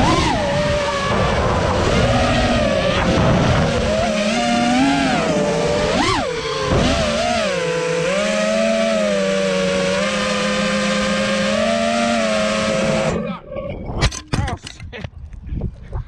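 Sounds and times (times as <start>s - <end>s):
drone motors whining: 0.0s - 14.1s.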